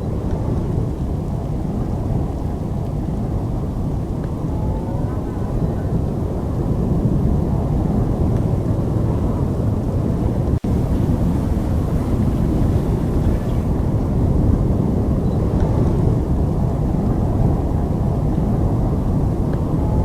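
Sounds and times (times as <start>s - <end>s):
storm wind rumbling: 0.0s - 20.0s.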